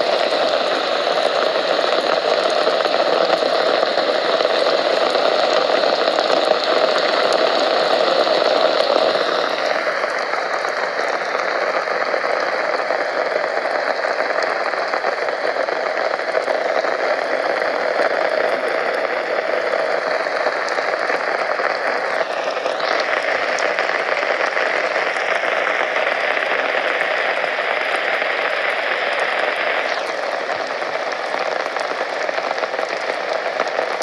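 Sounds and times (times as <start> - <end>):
steady rain patter: 0.0 - 34.0.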